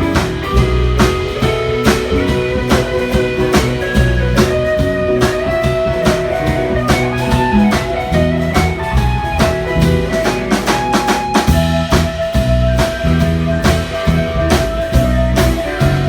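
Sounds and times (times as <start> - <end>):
drum kit beat: 0.0 - 16.0
guitar: 0.0 - 16.0.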